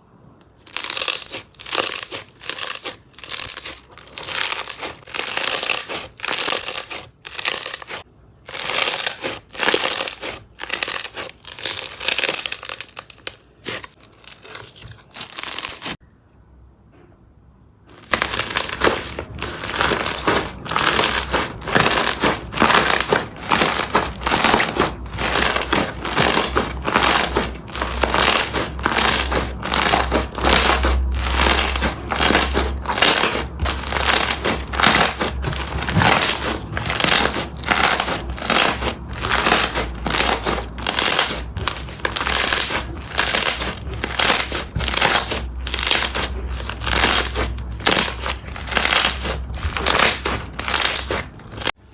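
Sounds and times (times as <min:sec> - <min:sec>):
crunchy slime crackling: 0:00.4 - 0:16.0, 0:17.9 - 0:51.9.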